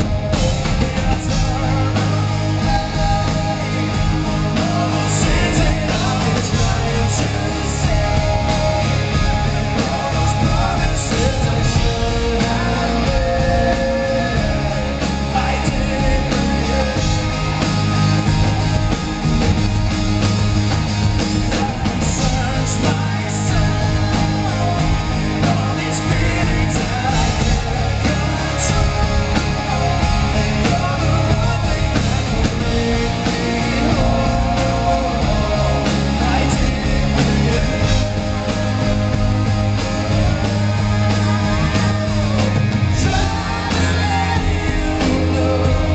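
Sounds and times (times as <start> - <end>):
man singing: 0.0 - 19.7, 21.0 - 45.9
live rock band playing: 0.0 - 45.9.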